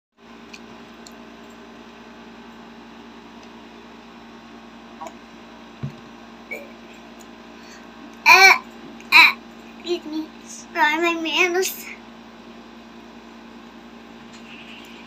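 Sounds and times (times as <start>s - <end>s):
low electrical hum: 0.2s - 15.0s.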